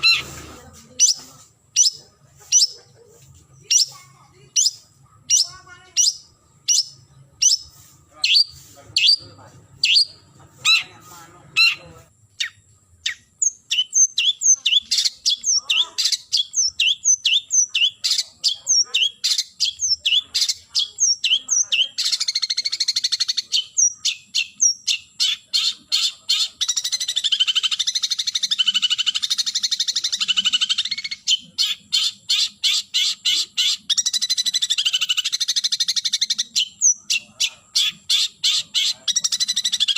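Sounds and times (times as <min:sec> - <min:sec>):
harsh rapid bird chatter: 0:00.0 - 0:39.9
shrike calling: 0:00.0 - 0:39.9.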